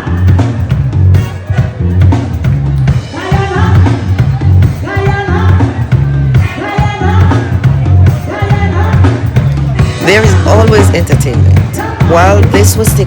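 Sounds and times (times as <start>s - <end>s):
pulsing bass line: 0.0s - 13.0s
upbeat pop music: 0.0s - 13.0s.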